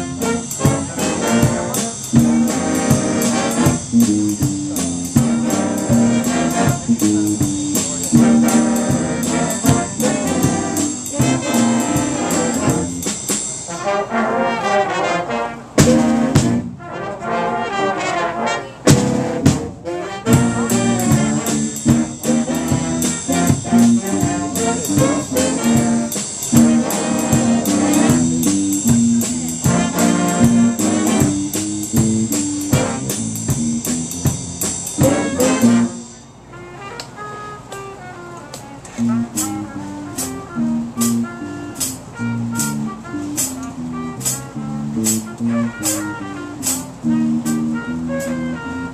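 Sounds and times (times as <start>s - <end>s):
bass line: 0.0s - 13.4s, 15.8s - 16.8s, 18.9s - 36.1s, 39.0s - 48.9s
steady jazz cymbal ride pattern: 0.0s - 14.2s, 15.8s - 16.9s, 18.8s - 36.9s, 38.9s - 48.9s
jazz band playing: 0.0s - 48.9s.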